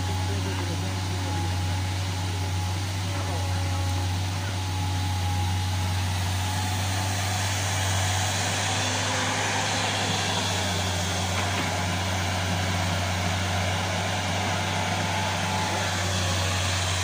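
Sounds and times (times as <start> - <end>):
excavator diesel engine running: 0.0 - 17.0
excavator digging earth: 0.0 - 17.0.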